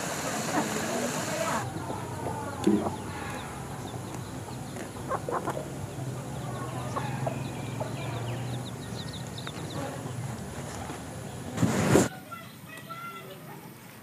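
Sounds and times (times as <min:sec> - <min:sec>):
chickens clucking: 0:00.0 - 0:12.5.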